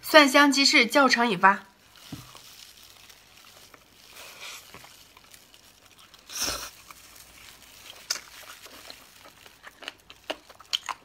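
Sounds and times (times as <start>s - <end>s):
person chewing: 1.9s - 11.0s.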